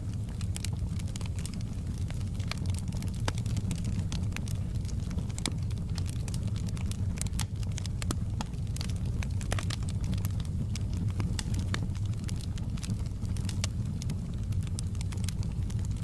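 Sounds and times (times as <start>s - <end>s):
low rumble of burning: 0.0s - 16.0s
wood fire crackling and popping: 0.0s - 16.0s.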